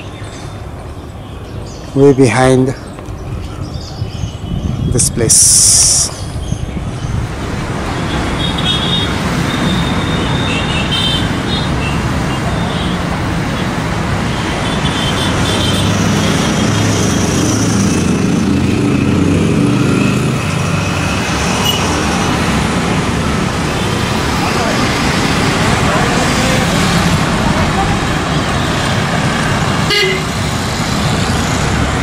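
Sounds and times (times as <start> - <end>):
distant road traffic: 0.0 - 32.0.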